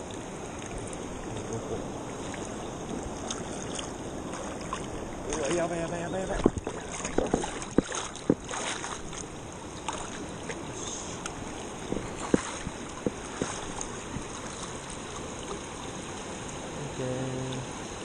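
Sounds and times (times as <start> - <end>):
river flowing: 0.0 - 18.0.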